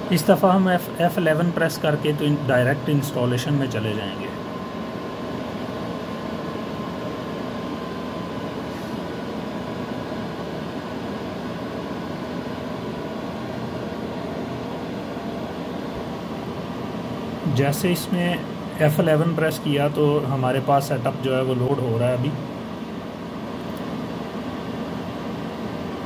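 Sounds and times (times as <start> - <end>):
server cooling fans whirring: 0.0 - 26.0.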